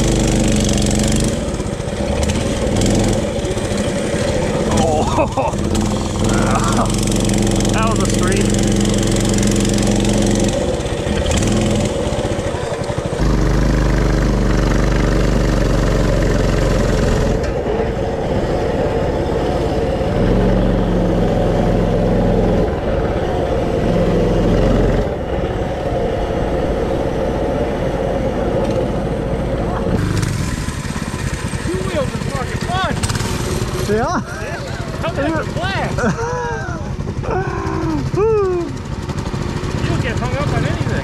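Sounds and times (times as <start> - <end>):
mini bike engine revving: 0.0 - 41.0.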